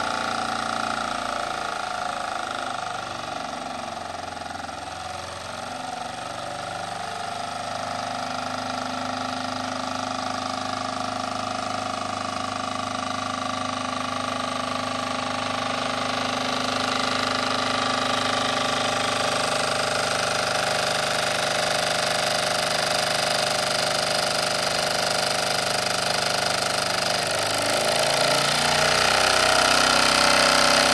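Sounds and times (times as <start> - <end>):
model steam engine running: 0.0 - 30.9.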